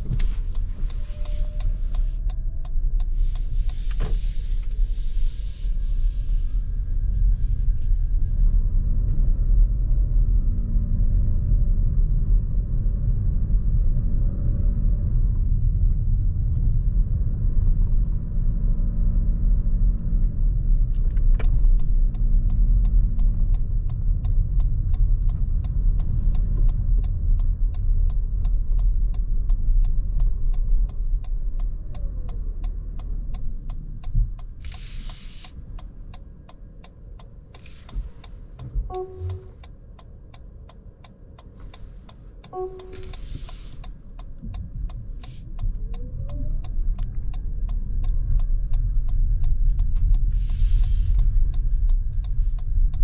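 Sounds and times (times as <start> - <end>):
road rumble inside car cabin: 0.0 - 53.0
turn signal ticking: 0.0 - 53.0.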